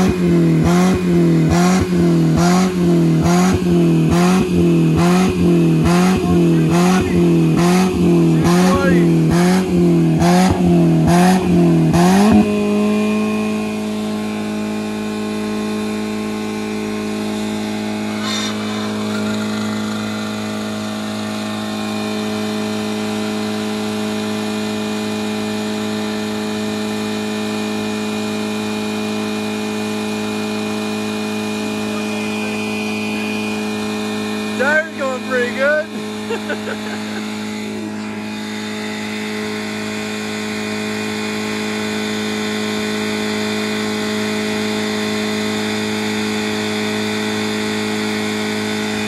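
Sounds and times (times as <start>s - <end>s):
car engine revving high: 0.0s - 49.0s.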